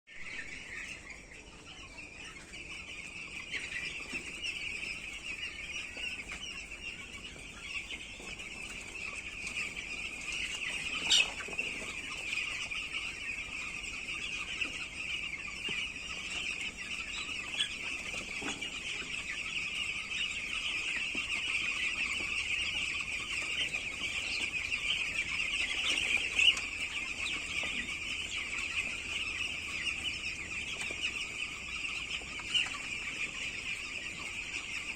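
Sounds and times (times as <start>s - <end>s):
chickens cheeping: 0.1s - 34.9s.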